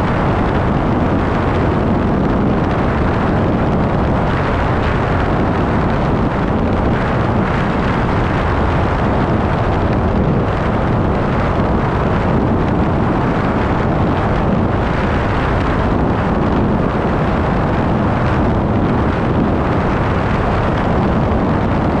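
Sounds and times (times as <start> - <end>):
vehicle road noise: 0.0 - 22.0
wind buffeting microphone: 0.0 - 22.0.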